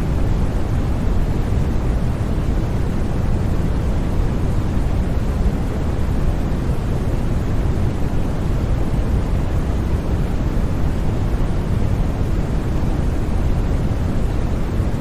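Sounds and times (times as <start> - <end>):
white noise: 0.0 - 15.0.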